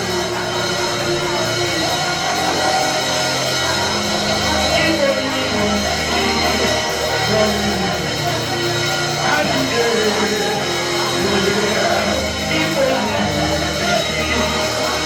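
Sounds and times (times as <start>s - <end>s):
gospel worship band playing: 0.0s - 15.0s.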